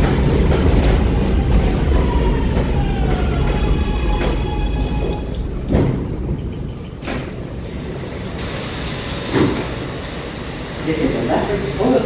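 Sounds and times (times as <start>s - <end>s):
train cars clunking: 0.0s - 12.0s
train wheels rumbling on rail: 0.0s - 12.0s.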